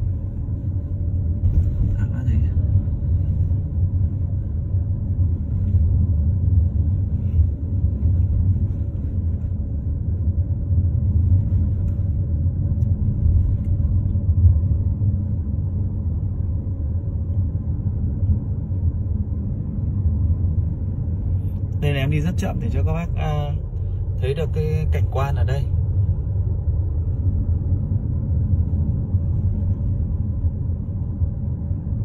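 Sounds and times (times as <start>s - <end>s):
car engine and tyres rumbling: 0.0s - 32.0s.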